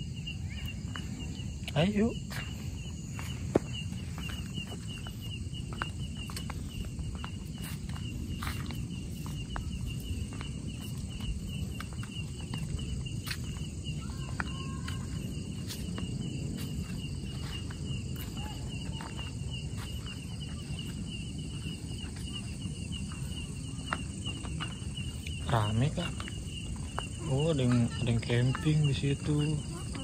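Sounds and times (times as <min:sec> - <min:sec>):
footsteps on a path: 0:00.0 - 0:30.0
night insects trilling: 0:00.0 - 0:30.0.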